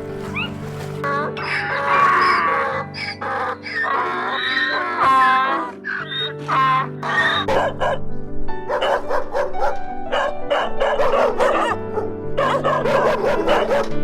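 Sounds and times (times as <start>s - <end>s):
background music: 0.0s - 14.0s
dog barking: 1.7s - 14.0s.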